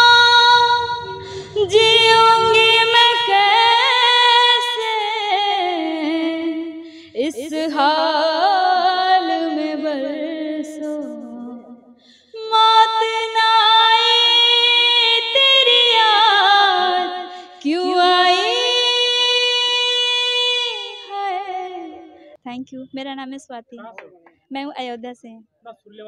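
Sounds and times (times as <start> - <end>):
woman singing unaccompanied: 0.0 - 11.8, 12.4 - 23.2.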